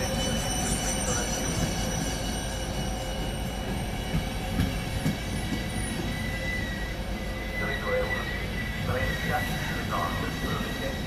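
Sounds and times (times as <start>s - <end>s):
high-pitched brake squeal: 0.0s - 11.0s
train rolling rumble: 0.0s - 11.0s.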